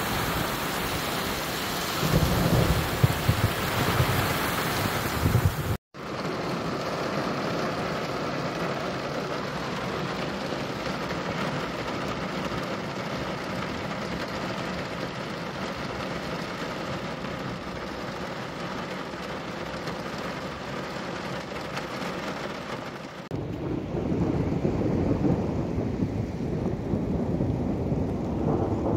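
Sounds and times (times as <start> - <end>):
heavy rain on car: 0.0 - 28.9.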